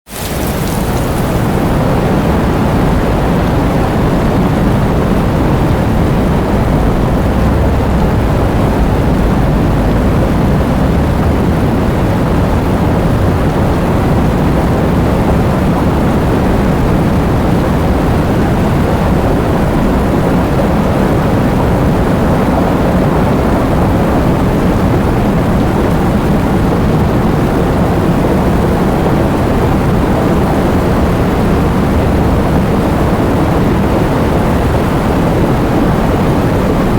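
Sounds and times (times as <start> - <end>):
low rushing wind: 0.0 - 36.9.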